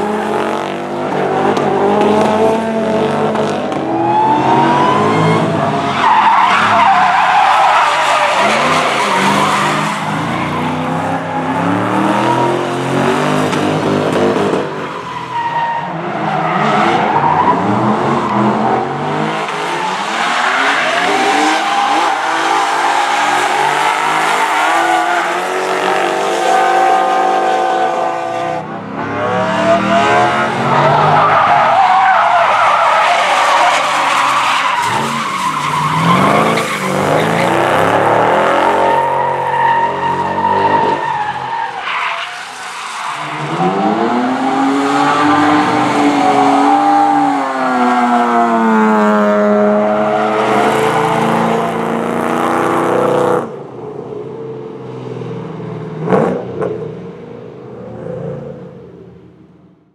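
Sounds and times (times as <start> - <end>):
car engines revving: 0.0 - 59.4.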